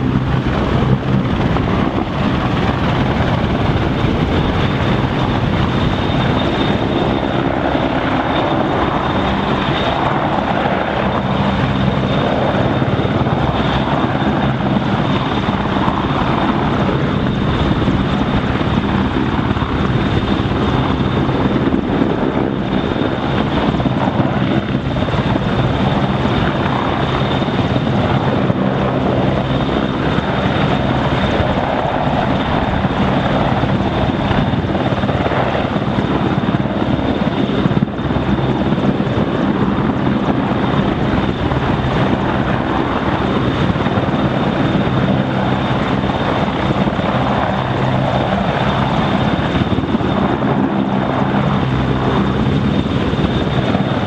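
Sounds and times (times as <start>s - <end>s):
helicopter roaring with high whine: 0.0s - 54.0s.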